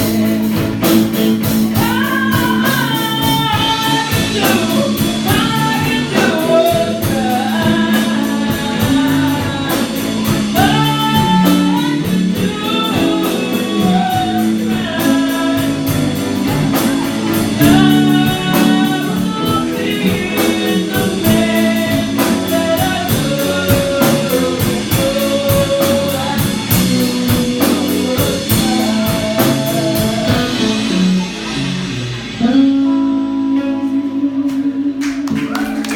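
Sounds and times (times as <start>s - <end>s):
drum kit steady beat: 0.0s - 33.9s
guitar: 0.0s - 35.9s
lead vocal singing: 0.0s - 35.9s.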